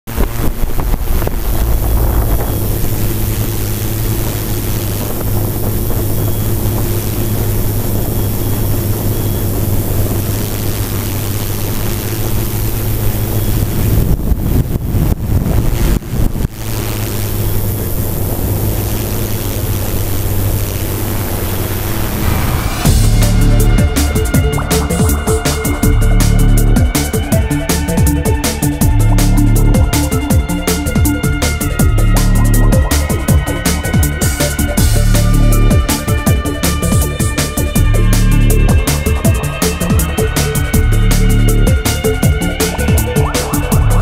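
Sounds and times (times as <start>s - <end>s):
wind rushing over microphone: 0.0s - 44.0s
quadcopter motors and propellers: 0.1s - 44.0s.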